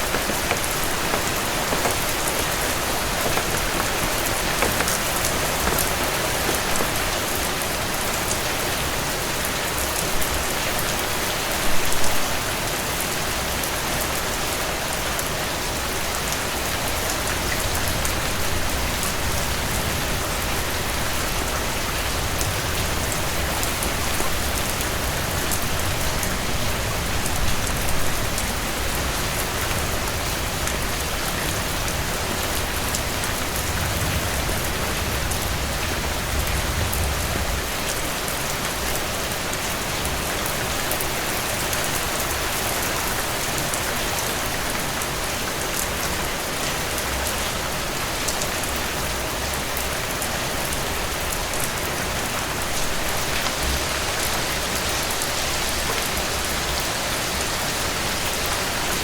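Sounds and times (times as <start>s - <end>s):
heavy rain pattering: 0.0s - 11.4s, 13.6s - 59.0s.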